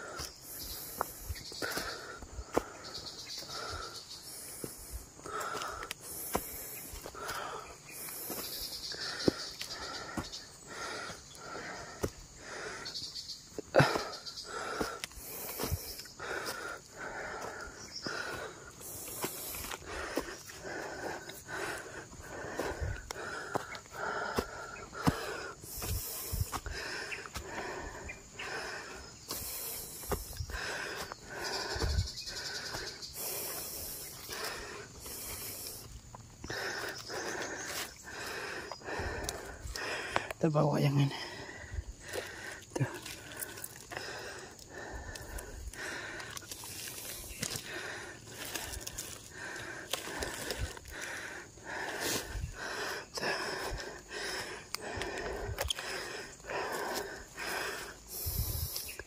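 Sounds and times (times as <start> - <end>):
heavy rhythmic breathing: 0.0 - 59.0.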